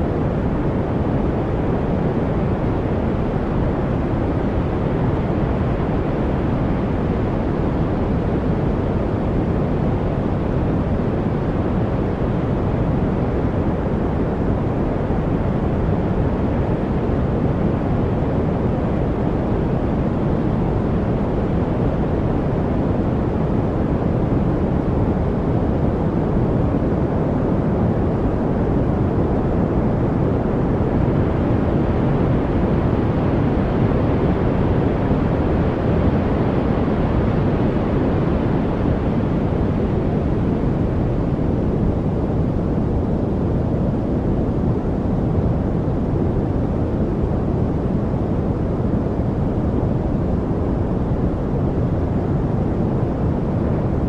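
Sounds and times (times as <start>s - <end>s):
deep rumbling background noise: 0.0s - 54.0s.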